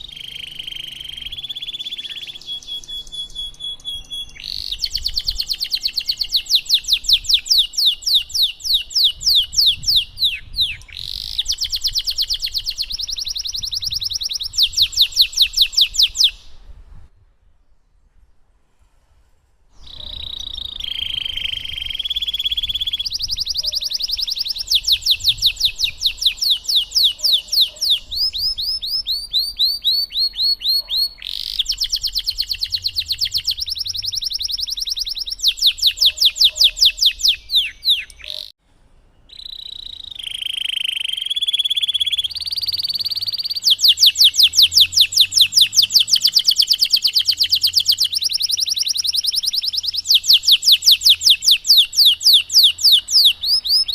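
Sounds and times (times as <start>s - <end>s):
canary singing trills: 0.0s - 16.7s, 19.8s - 38.6s, 39.2s - 53.9s.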